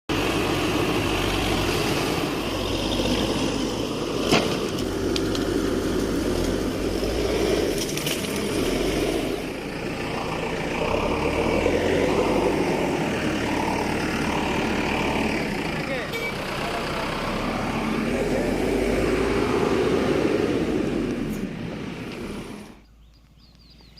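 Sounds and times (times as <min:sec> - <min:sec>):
diesel engine running: 0:00.1 - 0:23.9.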